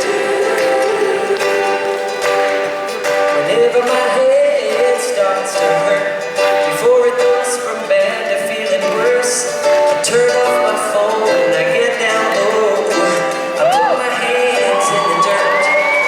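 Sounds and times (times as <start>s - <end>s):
person singing: 0.0s - 16.0s
plucked string instruments: 0.0s - 16.0s.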